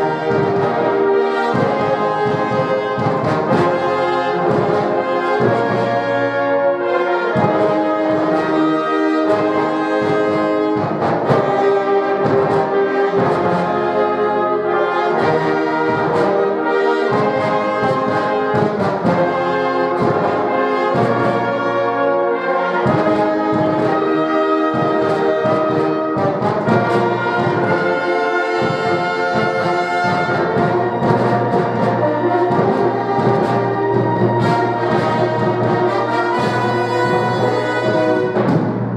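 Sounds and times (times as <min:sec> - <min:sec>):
brass music over a steady beat: 0:00.0 - 0:38.9.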